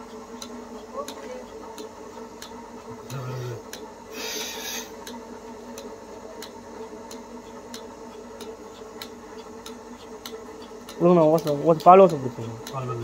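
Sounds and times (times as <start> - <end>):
milking machine humming: 0.0 - 13.0
milking machine pulsator clicking: 0.0 - 13.0.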